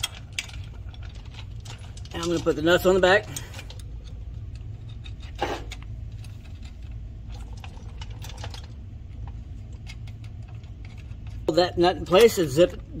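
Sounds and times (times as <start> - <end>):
metallic clicks of bolts and nuts: 0.0 - 12.8
low steady hum: 0.0 - 13.0.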